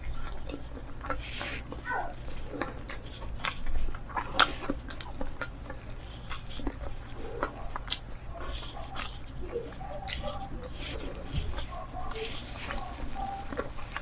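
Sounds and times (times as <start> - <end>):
chewing fried chicken: 0.0 - 14.0
mouth clicks: 0.0 - 14.0.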